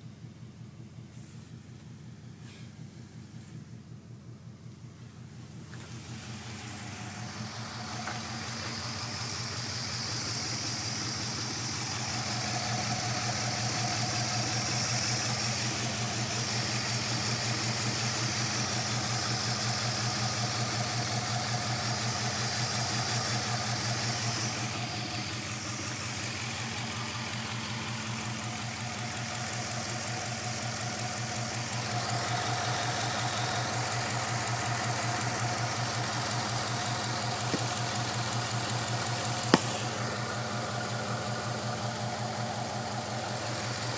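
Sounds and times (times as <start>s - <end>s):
car engine idling rough: 0.0s - 43.9s.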